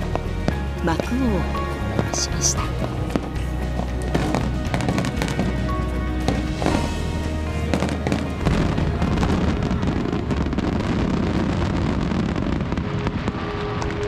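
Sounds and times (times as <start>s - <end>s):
background music: 0.0s - 14.0s
crackle of sparkling fireworks: 0.0s - 14.0s
fireworks bursting: 0.0s - 14.0s.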